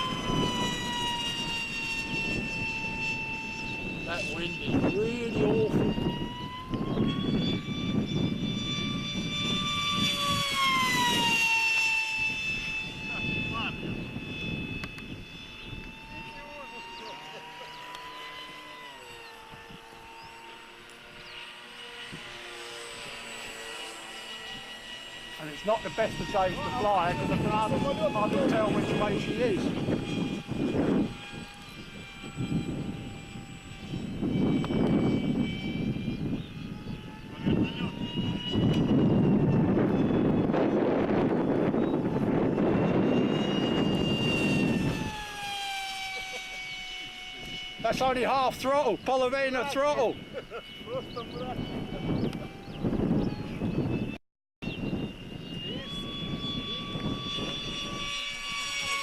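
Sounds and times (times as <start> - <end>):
model jet propeller whine: 0.0 - 59.0
wind buffeting microphone: 0.0 - 59.0.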